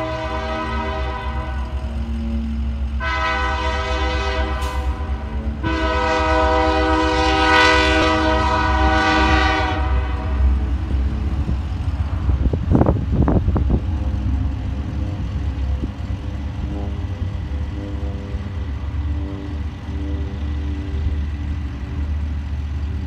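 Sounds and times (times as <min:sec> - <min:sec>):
locomotive air horn blasts: 0:00.0 - 0:11.4, 0:13.6 - 0:22.1
steady low rumble: 0:00.0 - 0:23.0.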